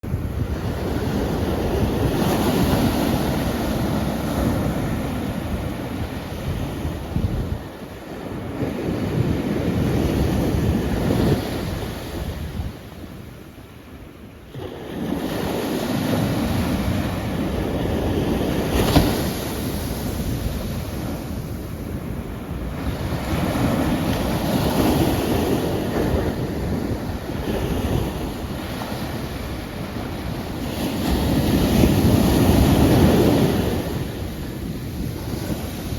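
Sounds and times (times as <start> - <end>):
waves breaking on shore: 0.0 - 13.7, 14.4 - 35.9.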